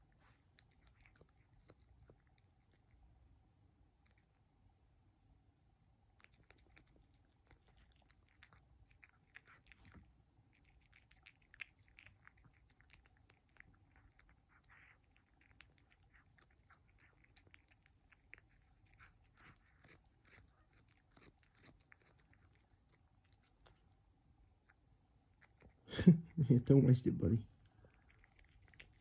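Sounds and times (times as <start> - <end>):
cat chewing and lapping: 0.0 - 5.0, 5.7 - 26.8, 27.6 - 29.0.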